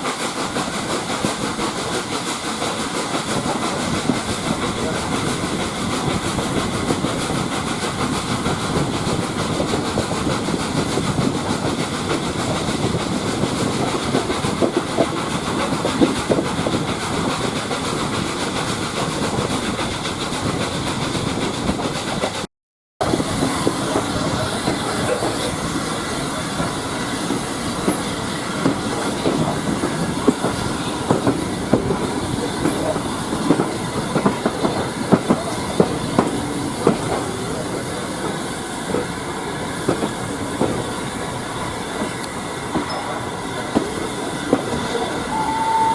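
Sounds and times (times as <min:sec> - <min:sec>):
rail joint clicks: 0:00.0 - 0:22.4, 0:23.1 - 0:45.9
train wheels rumbling on rail: 0:00.0 - 0:45.9.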